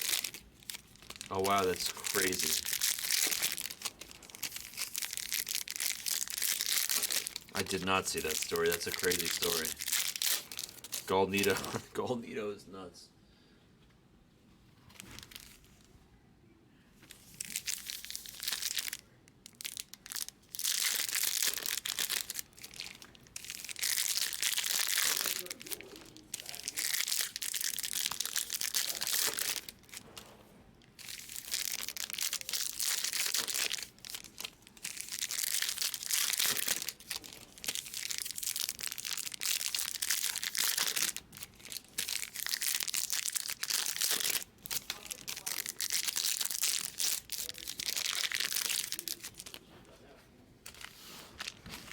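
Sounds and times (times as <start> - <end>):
foil wrappers crinkling and tearing: 0.0 - 11.8, 14.8 - 15.8, 17.1 - 49.7, 50.6 - 51.9.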